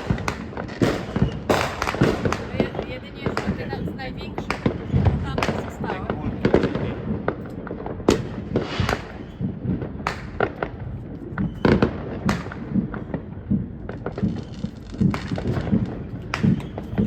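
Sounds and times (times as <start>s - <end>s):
fireworks bangs: 0.0s - 17.0s
fireworks crackles: 0.0s - 17.0s.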